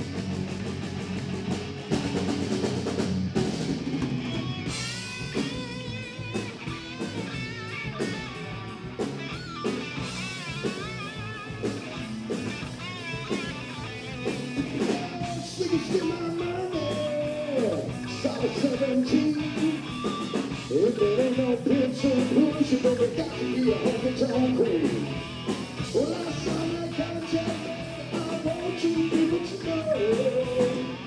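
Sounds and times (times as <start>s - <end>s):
drum kit beat: 0.0s - 31.0s
electric guitar lead: 0.0s - 31.0s.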